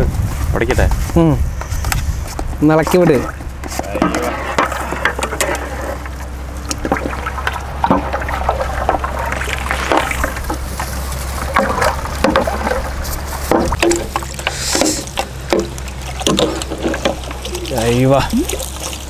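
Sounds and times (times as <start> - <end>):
steady low hum: 1.1 - 19.0
liquid sloshing and splashing: 2.8 - 19.0.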